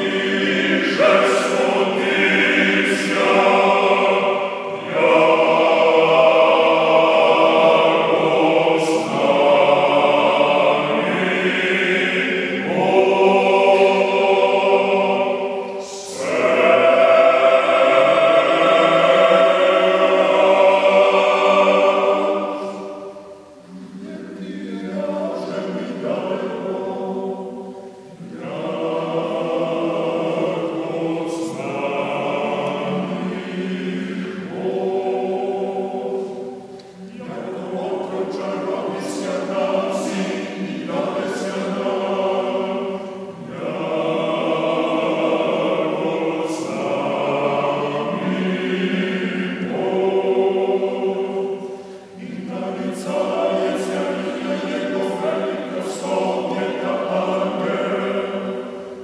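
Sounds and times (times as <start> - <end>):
male choir singing a cappella: 0.0 - 59.0.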